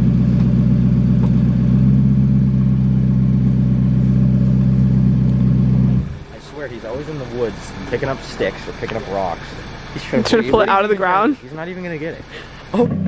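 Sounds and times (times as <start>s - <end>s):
car engine running loud: 0.0s - 13.0s.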